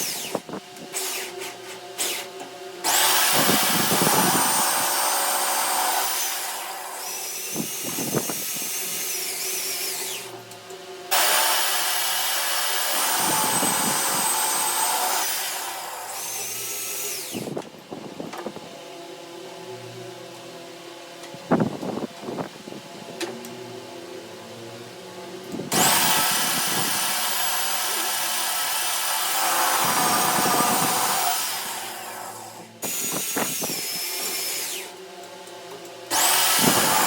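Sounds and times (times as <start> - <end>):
power tool whining: 0.0 - 20.0, 25.4 - 37.0.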